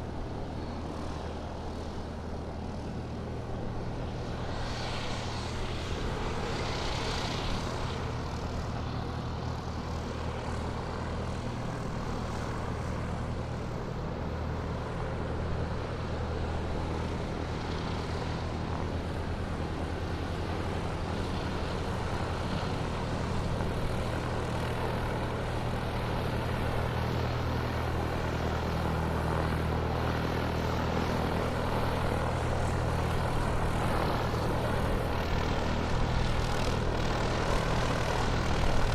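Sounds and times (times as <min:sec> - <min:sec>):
aircraft engines droning: 0:00.0 - 0:38.9.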